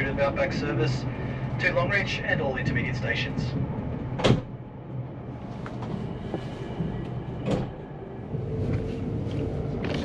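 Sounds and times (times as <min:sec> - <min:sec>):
train running gear rumble: 0:00.0 - 0:10.0.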